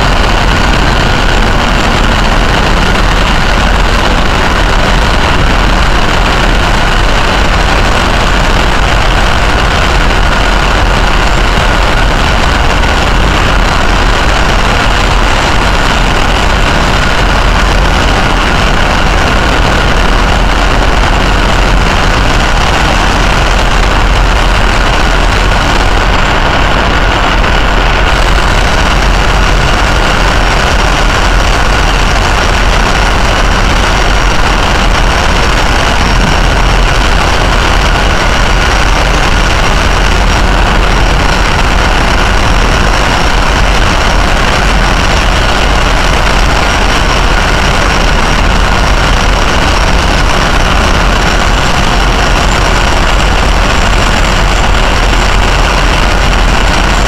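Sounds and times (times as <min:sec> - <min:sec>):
helicopter turbines idling: 0:00.0 - 0:57.0.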